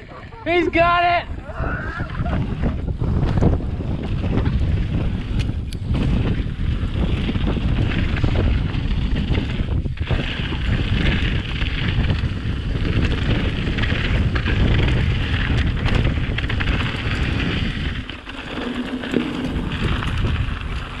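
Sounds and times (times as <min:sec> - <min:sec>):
bike rattles and clicks: 0:00.0 - 0:21.0
wind buffeting microphone: 0:00.0 - 0:21.0.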